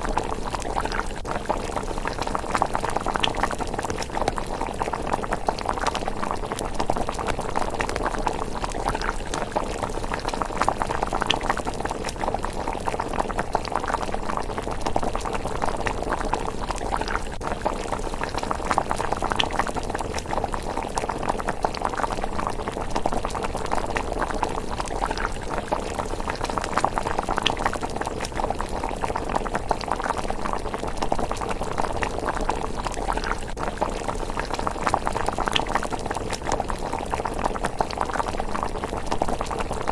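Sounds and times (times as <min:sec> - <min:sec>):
porridge bubbling with pops: 0:00.0 - 0:39.9.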